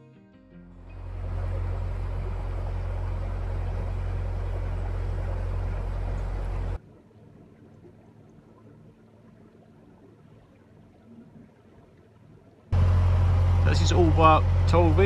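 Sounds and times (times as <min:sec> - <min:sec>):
boat engine low rumble: 0:00.8 - 0:15.0
water noise: 0:00.8 - 0:15.0.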